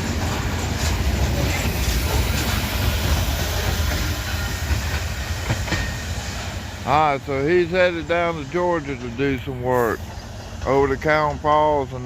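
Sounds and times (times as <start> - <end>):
train cars rumbling on rails: 0.0 - 12.0.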